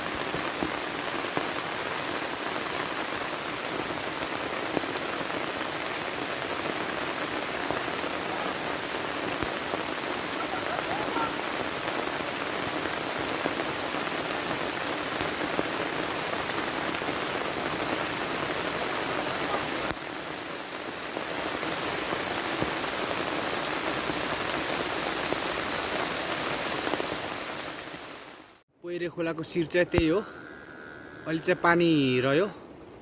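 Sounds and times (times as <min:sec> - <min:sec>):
rushing water: 0:00.0 - 0:28.6.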